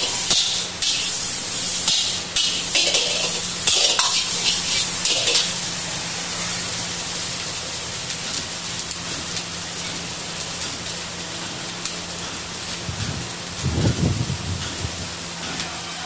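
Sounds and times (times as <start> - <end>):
rice sizzling in a wok: 0.0 - 16.0.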